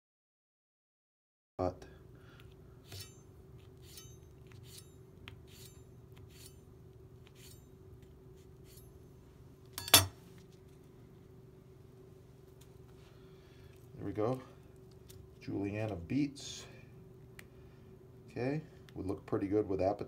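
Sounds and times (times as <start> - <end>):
faint steady hum: 1.6 - 20.0.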